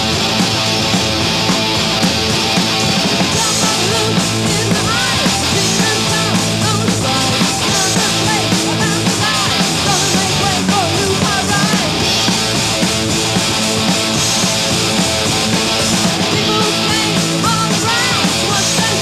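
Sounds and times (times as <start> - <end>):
heavy metal band playing live: 0.0 - 19.0.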